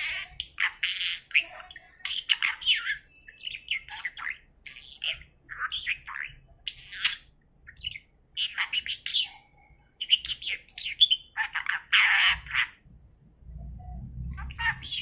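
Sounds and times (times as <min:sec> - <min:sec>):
budgerigar chattering words: 0:00.0 - 0:09.4, 0:10.0 - 0:12.8, 0:14.4 - 0:15.0.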